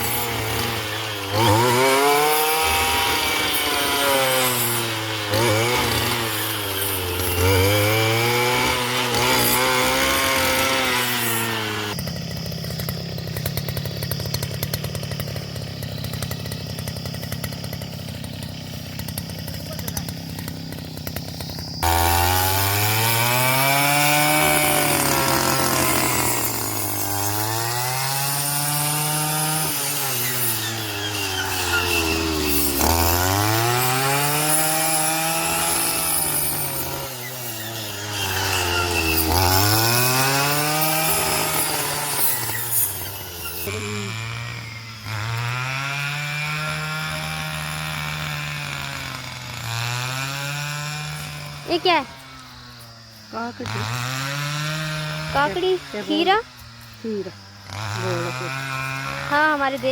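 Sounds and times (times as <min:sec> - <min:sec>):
brush cutter engine revving: 0:00.0 - 0:59.9.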